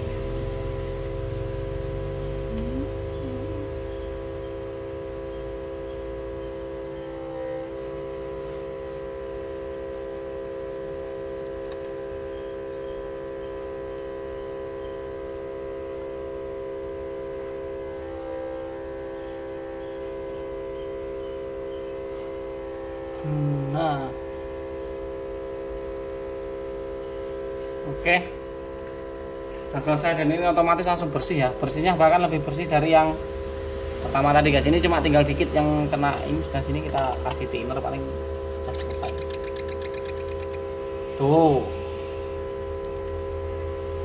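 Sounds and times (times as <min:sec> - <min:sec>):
machine electrical hum: 0:00.0 - 0:44.0.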